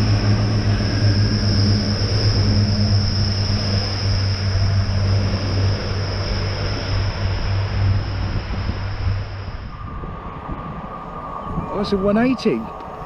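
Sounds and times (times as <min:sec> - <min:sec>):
constant high whine: 0:00.0 - 0:13.0
diesel train engines droning: 0:00.0 - 0:13.0.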